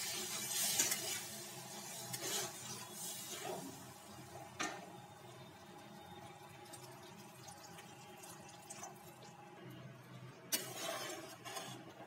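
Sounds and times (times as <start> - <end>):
gravy simmering in a pan: 0.0 - 12.0.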